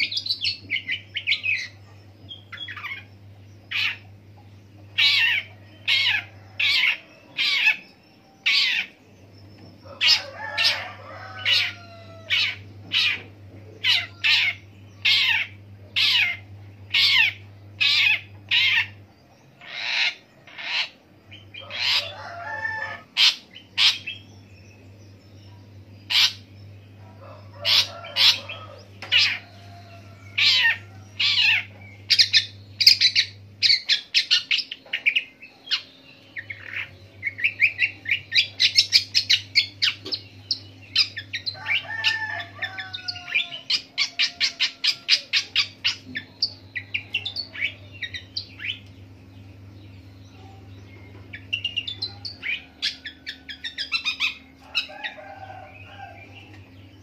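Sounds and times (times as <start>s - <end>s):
bird singing varied song: 0.0s - 57.0s
low steady hum: 0.0s - 57.0s.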